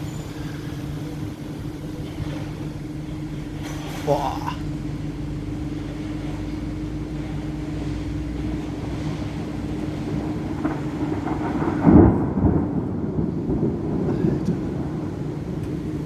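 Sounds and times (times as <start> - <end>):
thunder peal: 0.0 - 6.2, 7.8 - 16.0
thunder rumbling: 0.0 - 16.0.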